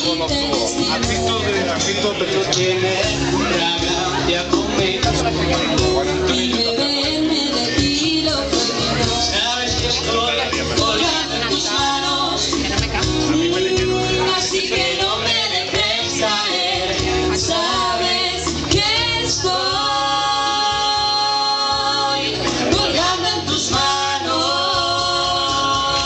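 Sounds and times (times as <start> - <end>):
music with men and women singing: 0.0 - 26.0.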